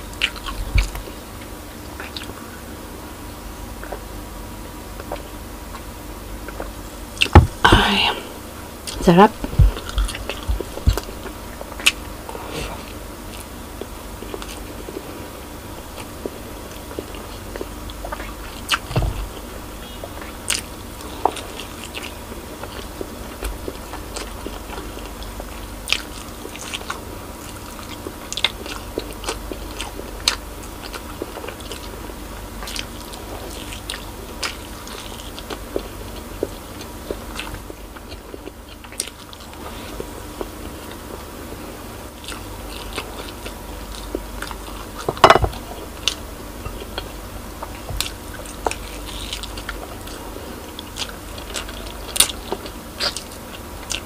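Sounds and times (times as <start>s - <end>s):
person chewing and biting: 0.1s - 2.5s, 5.0s - 8.0s, 8.8s - 15.0s, 15.8s - 41.2s, 42.2s - 54.0s.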